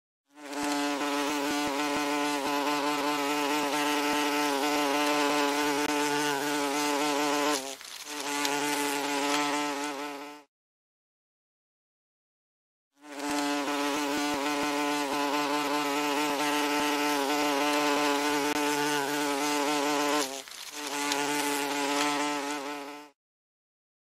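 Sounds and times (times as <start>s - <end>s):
wasp buzzing: 0.3s - 10.5s, 13.0s - 23.2s.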